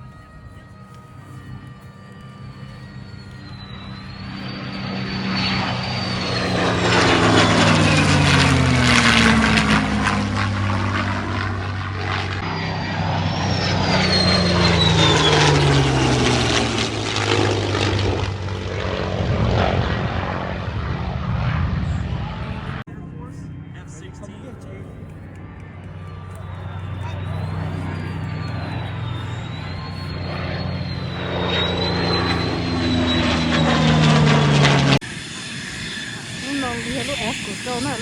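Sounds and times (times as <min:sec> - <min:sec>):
propeller airplane flying past: 0:00.0 - 0:38.0.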